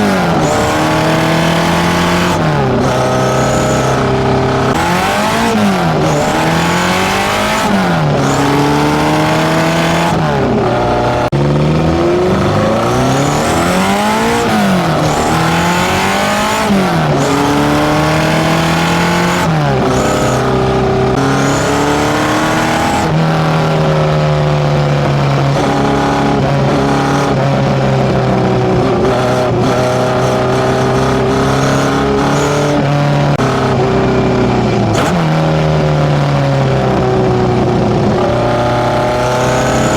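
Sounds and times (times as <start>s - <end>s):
engine revving and idling: 0.0s - 39.9s.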